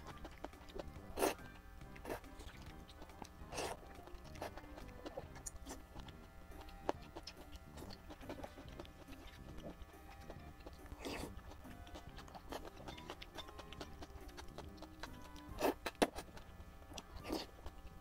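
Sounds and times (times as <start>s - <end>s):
background music: 0.0s - 18.0s
chewing noodles: 0.0s - 18.0s.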